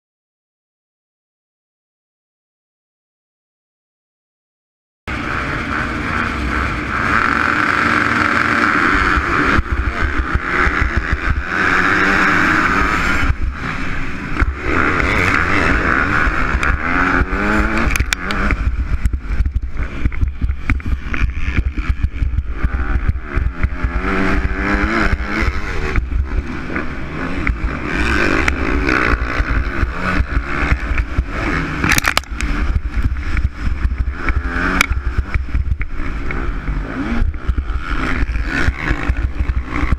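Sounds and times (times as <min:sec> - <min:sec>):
motocross bike engine revving: 0:05.1 - 0:39.9
wind noise: 0:05.1 - 0:39.9.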